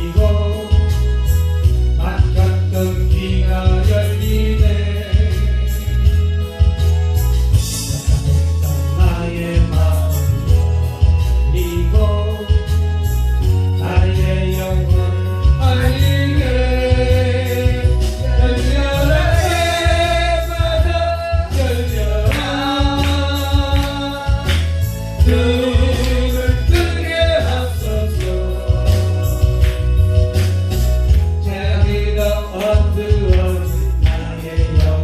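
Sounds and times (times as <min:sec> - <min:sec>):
gospel backing music: 0:00.0 - 0:35.0
percussion: 0:00.0 - 0:35.0
steady bass beat: 0:00.0 - 0:35.0.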